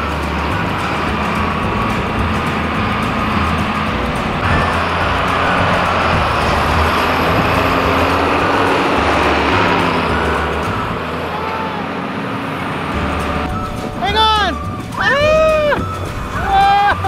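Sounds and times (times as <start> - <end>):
steady rushing noise: 0.0 - 17.0
tractor diesel engine running: 0.0 - 17.0.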